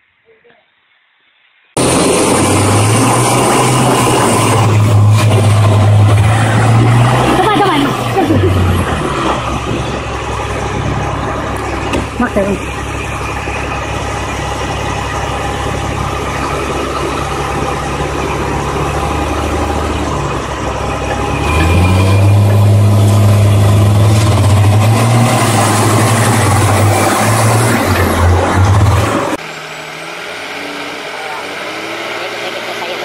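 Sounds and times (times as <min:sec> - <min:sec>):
heavy diesel engine revving: 0:01.8 - 0:33.0.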